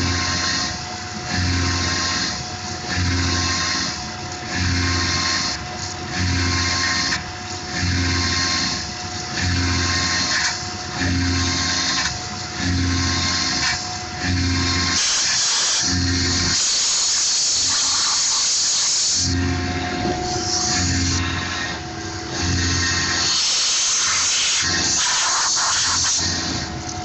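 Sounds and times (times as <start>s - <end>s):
mill cutting metal: 0.0s - 27.0s.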